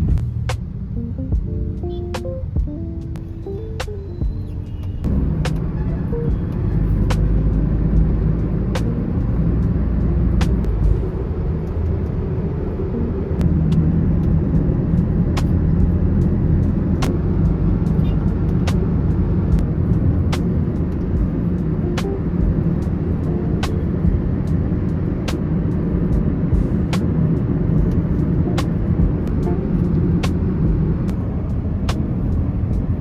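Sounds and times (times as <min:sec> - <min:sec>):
road vehicle rumbling: 0:00.0 - 0:33.0.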